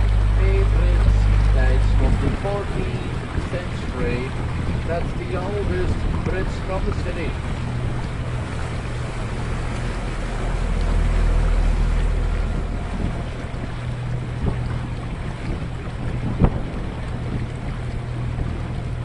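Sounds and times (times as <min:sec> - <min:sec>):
boat motor humming: 0:00.0 - 0:19.0
water rushing along hull: 0:00.0 - 0:19.0
wind buffeting microphone: 0:00.0 - 0:19.0.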